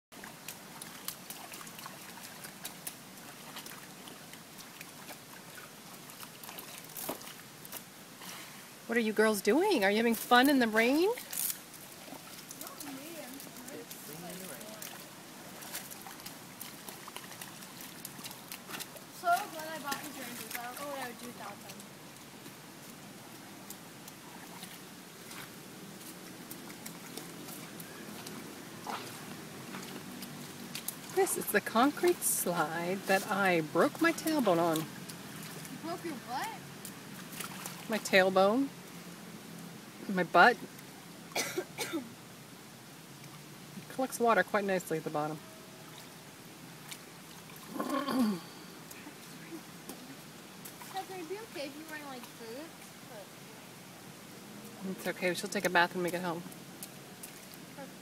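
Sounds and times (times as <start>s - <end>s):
light rain falling: 0.1s - 58.0s.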